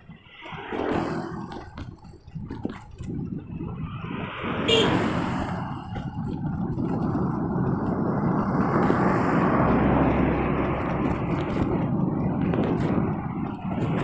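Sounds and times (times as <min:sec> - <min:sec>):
bicycle tyres humming on asphalt: 0:00.0 - 0:14.0
wind rushing on microphone: 0:00.0 - 0:14.0.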